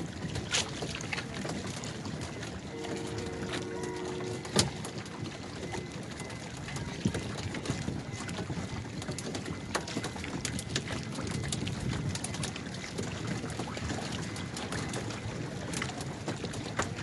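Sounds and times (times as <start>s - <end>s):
knocks and clicks from boats: 0.0s - 17.0s
water sloshing and splashing: 0.0s - 17.0s.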